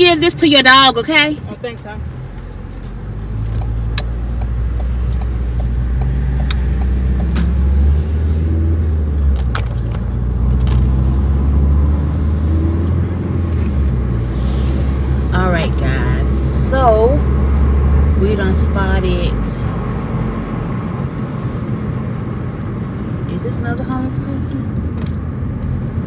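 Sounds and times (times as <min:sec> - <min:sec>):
engine and road rumble: 0:00.0 - 0:26.0.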